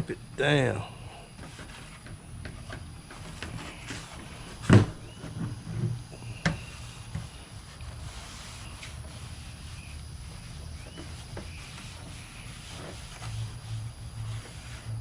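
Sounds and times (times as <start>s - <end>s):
rustling: 1.2s - 15.0s.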